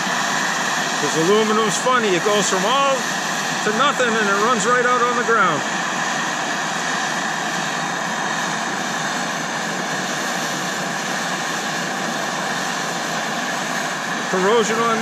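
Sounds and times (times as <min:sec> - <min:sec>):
gas torches rushing: 0:00.0 - 0:15.0.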